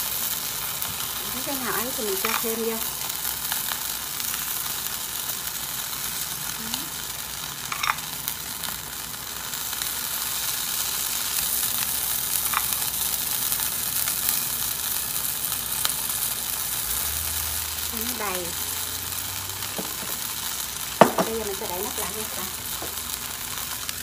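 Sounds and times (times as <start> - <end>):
batter sizzling in pan: 0.0 - 24.0.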